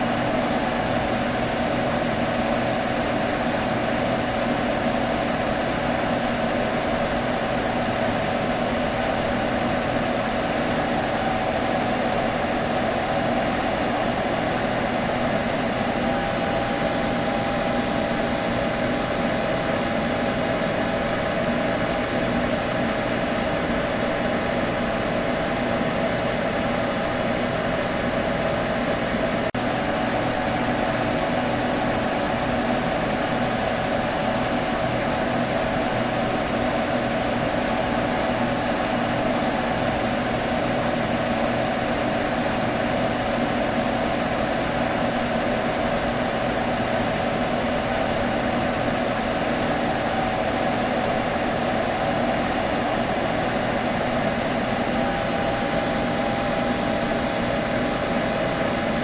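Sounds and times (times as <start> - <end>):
computer fan whirring: 0.0 - 59.0.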